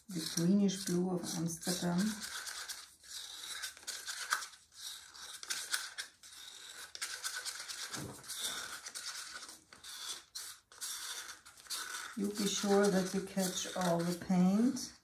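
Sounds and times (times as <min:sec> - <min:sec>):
stick scraping paper cup: 0:00.0 - 0:15.0.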